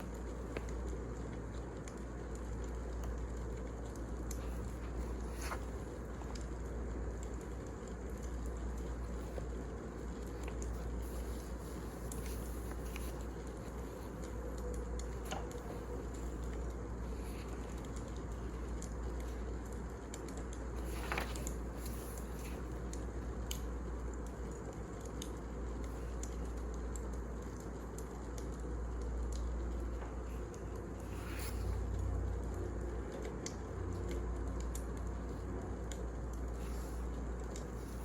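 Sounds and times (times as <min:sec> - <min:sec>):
firewood burning with crackles: 0:00.0 - 0:38.0.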